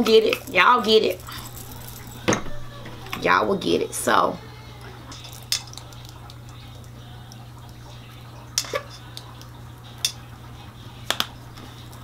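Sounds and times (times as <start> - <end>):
steady low hum: 0.5 - 12.0.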